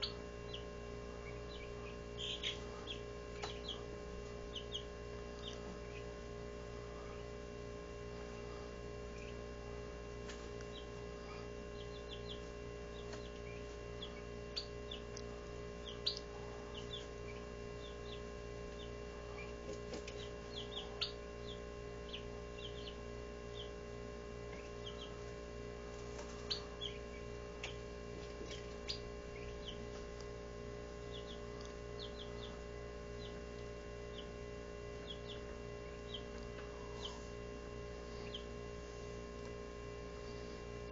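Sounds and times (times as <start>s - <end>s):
chicks peeping: 0.0s - 38.8s
steady hum: 0.0s - 40.9s.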